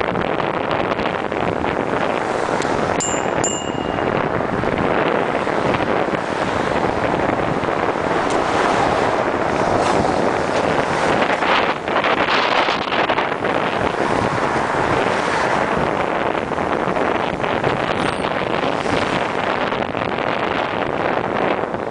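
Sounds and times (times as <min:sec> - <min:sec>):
passing traffic: 0:00.0 - 0:21.9
wind buffeting microphone: 0:00.0 - 0:21.9.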